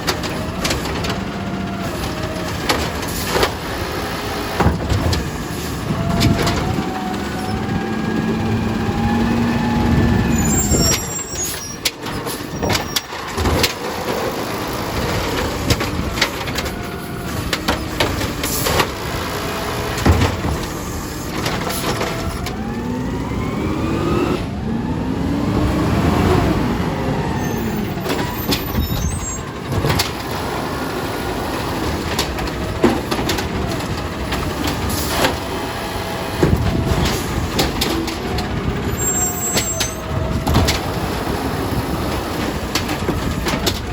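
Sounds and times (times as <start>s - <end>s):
garbage truck engine revving: 0.0s - 43.9s
hydraulic whine: 1.8s - 32.0s, 34.4s - 43.9s.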